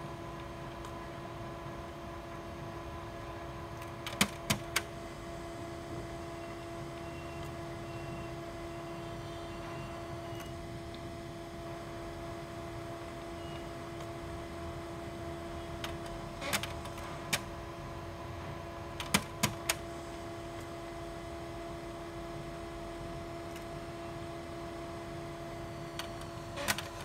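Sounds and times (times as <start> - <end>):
printer motor hum: 0.0 - 27.0.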